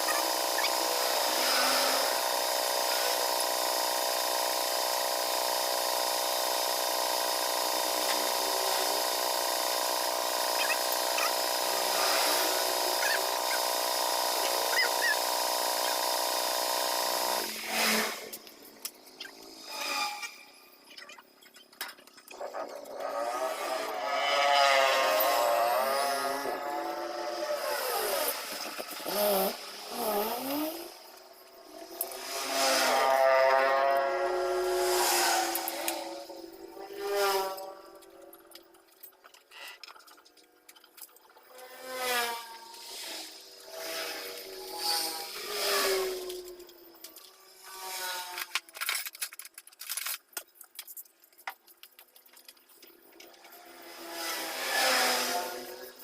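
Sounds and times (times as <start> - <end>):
small motor whining: 0.0 - 49.1, 51.9 - 56.0.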